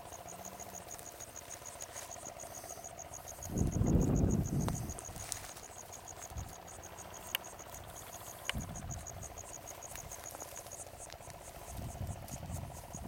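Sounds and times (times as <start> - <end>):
insect chirping: 0.0 - 13.0
low pulsing drone: 0.0 - 13.0.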